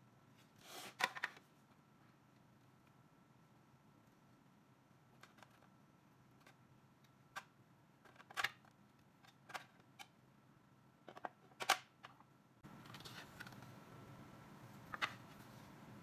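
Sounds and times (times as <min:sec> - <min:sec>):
faint steady hiss: 0:00.0 - 0:11.0, 0:12.0 - 0:16.0.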